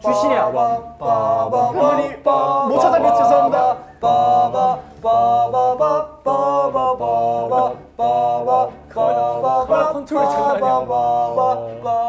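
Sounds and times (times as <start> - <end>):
men singing unaccompanied: 0.0 - 12.0.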